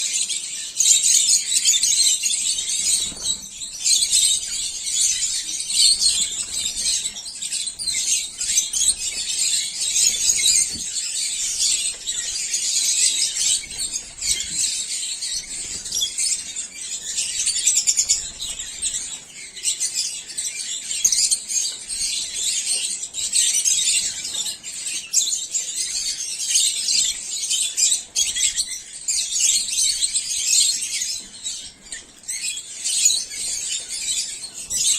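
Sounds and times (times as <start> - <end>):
flock of birds chattering: 0.0 - 34.9.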